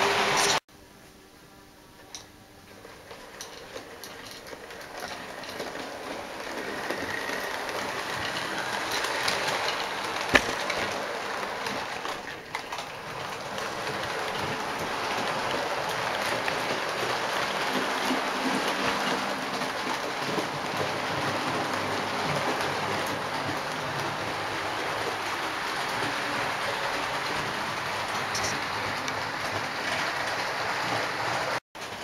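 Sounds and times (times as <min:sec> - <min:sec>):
model train rattling on track: 0:02.7 - 0:32.0.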